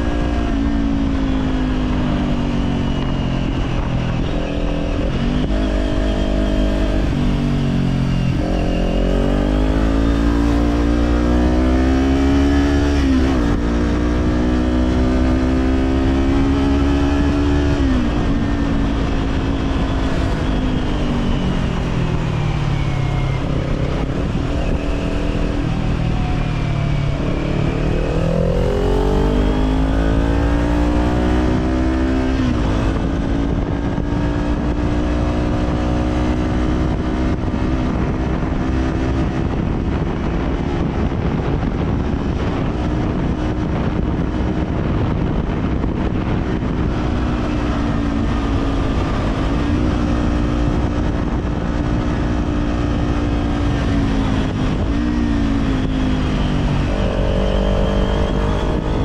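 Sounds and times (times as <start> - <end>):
motorcycle engine: 0.0 - 59.0
wind noise: 0.0 - 59.0.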